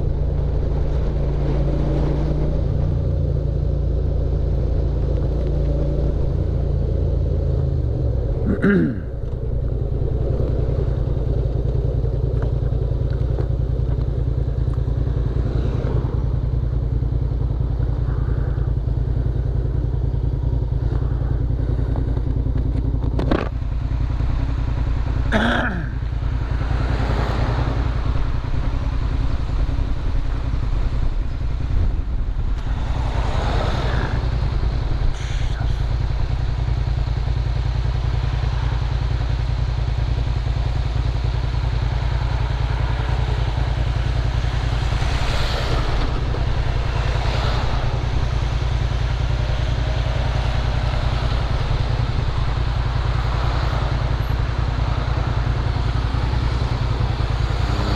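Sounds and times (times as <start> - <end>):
motorcycle engine idling: 2.6 - 57.9.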